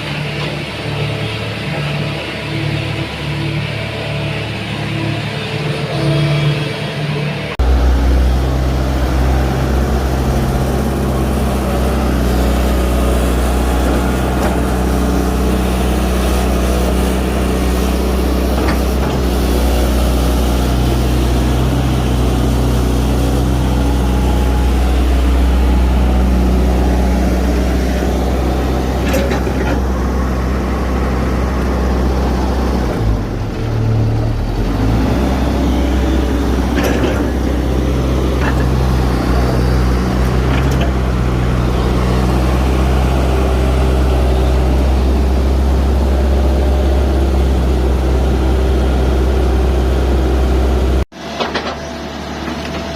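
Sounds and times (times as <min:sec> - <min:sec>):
excavator diesel engine humming: 0:00.0 - 0:52.9.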